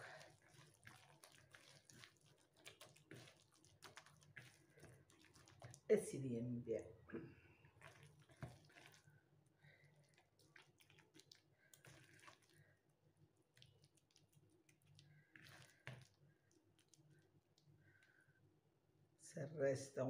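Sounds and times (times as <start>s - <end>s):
wet squishing of stuffing: 0.0s - 18.5s.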